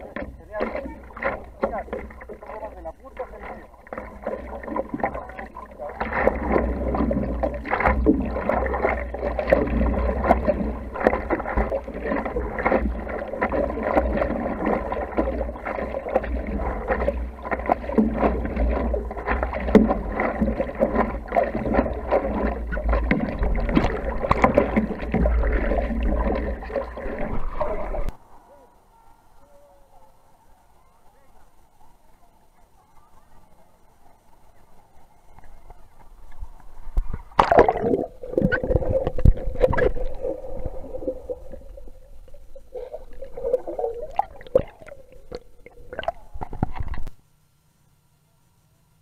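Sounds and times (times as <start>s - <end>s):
water splashing against paddleboard: 0.0s - 28.2s, 35.4s - 47.2s.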